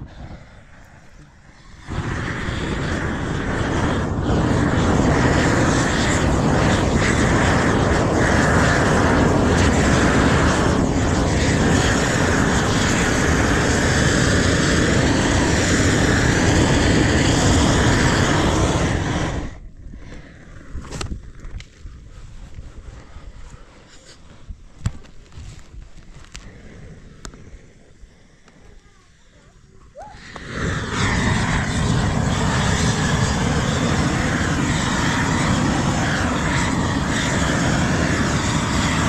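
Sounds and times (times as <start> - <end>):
gas torch burning: 0.0 - 39.0.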